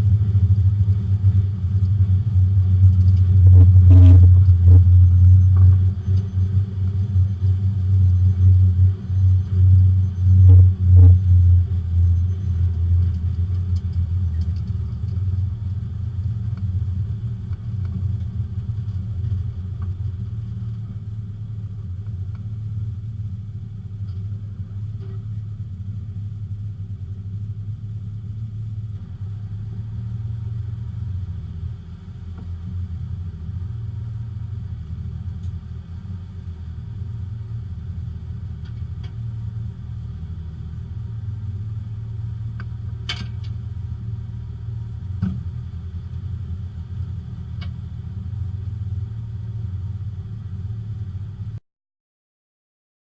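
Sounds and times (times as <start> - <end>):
car engine drone from inside: 0.0 - 51.6.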